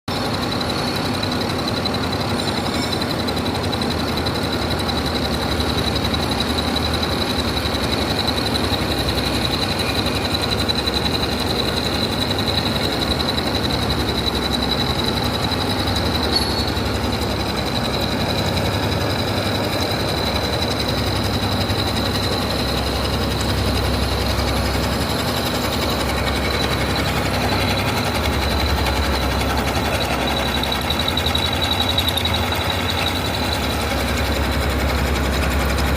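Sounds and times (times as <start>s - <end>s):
high-pitched whine: 0.1s - 35.9s
milling machine running: 0.1s - 35.9s.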